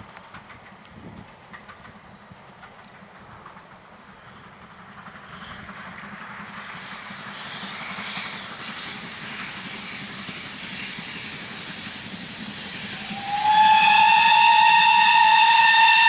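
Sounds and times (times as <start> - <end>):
steam train running: 0.0 - 16.0
steam hissing: 1.4 - 16.0.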